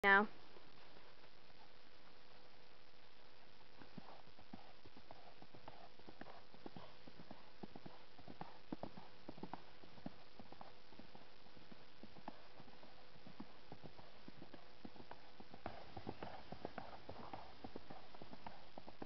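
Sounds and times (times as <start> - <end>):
horse hoofbeats on soft dirt: 0.5 - 19.0.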